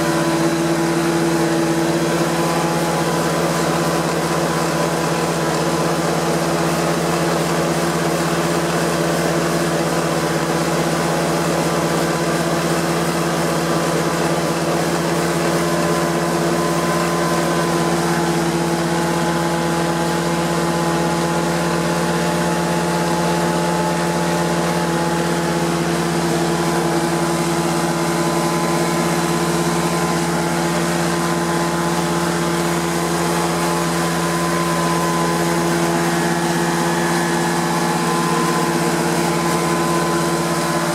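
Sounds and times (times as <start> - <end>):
carpet cleaner engine droning: 0.0 - 40.9.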